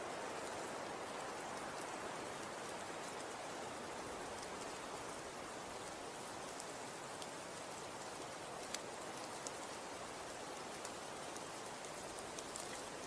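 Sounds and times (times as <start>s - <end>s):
light ticks of snowflakes: 0.0s - 13.0s.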